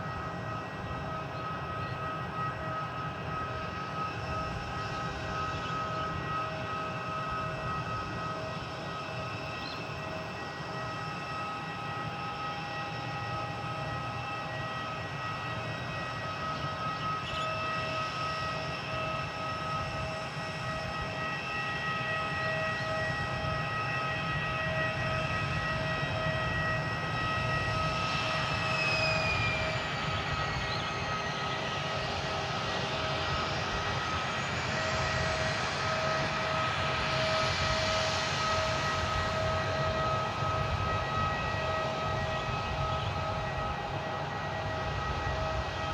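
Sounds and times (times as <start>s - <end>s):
airliner engines whining: 0.0s - 45.9s.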